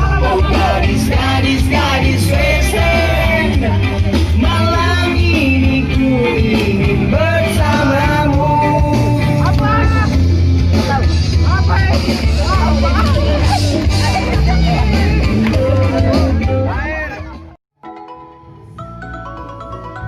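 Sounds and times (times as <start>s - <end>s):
song with singing and bass: 0.0s - 17.6s.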